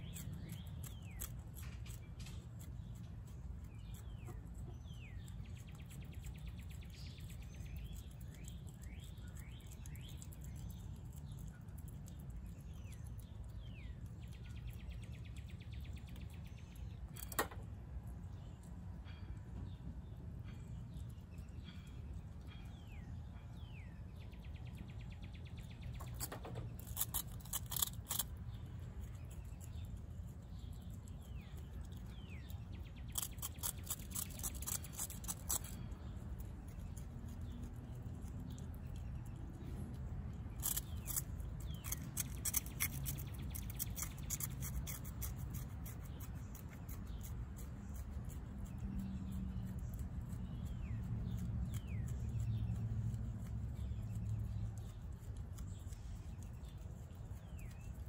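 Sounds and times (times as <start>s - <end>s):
opossum chewing food: 0.0s - 18.8s, 20.0s - 58.0s.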